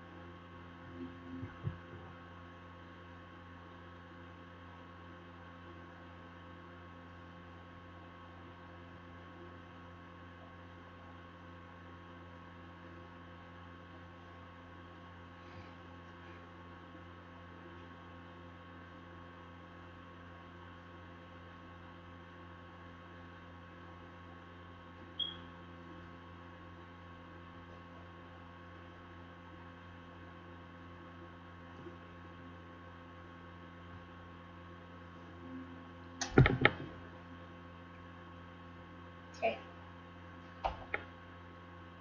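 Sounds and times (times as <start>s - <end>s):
electrical hum with tones: 0.0s - 42.0s.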